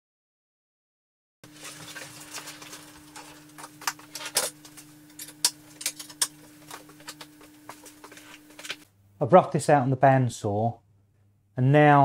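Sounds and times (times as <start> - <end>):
steady low hum: 1.4 - 11.6.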